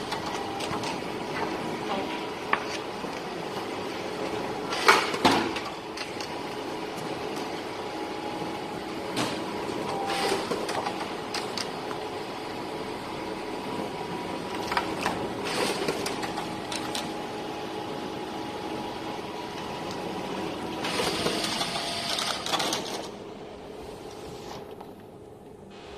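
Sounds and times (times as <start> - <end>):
copier mechanical hum: 0.0 - 25.9.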